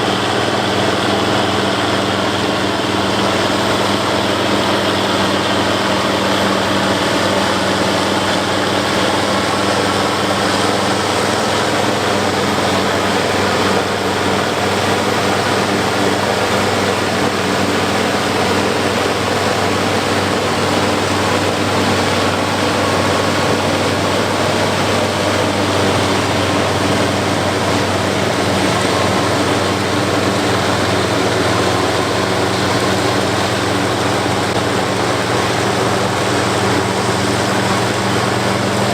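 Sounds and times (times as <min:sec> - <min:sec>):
forage harvester chopping: 0:00.0 - 0:38.9
tractor diesel engine hum: 0:00.0 - 0:38.9.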